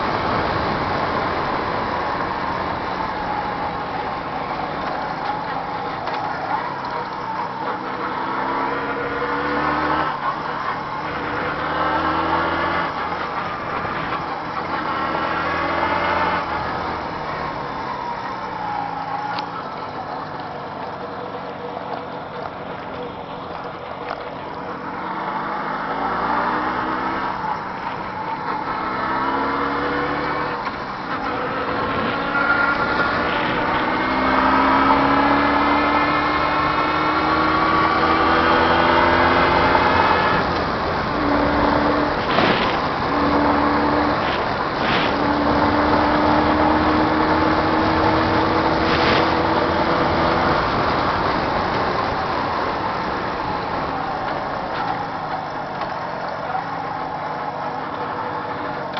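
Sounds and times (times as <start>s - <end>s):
motorcycle engine revving through gears: 0.0s - 58.9s.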